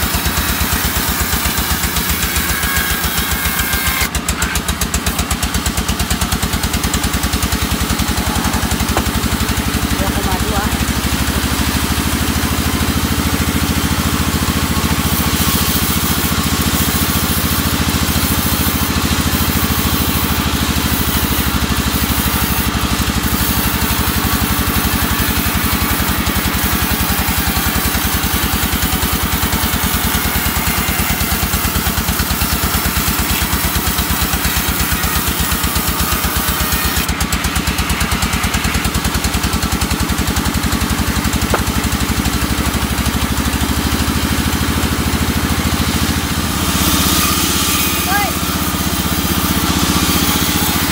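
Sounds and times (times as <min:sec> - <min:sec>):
saw blade cutting wood hiss: 0:00.0 - 0:11.6, 0:14.5 - 0:44.0, 0:45.2 - 0:50.9
band saw machine drone: 0:00.0 - 0:50.9.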